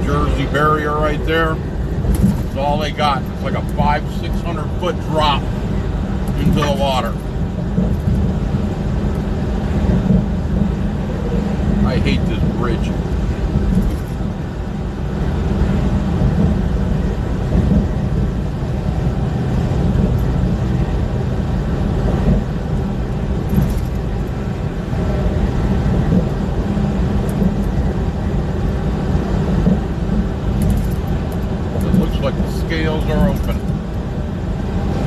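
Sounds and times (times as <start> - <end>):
truck engine and tyres droning: 0.0 - 35.0.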